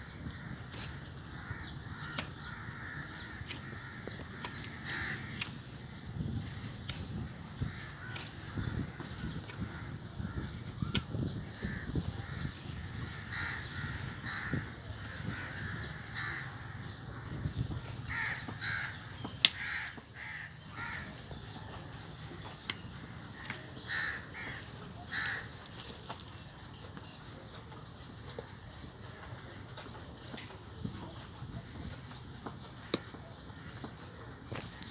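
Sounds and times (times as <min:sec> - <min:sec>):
birds calling: 0:00.0 - 0:34.9.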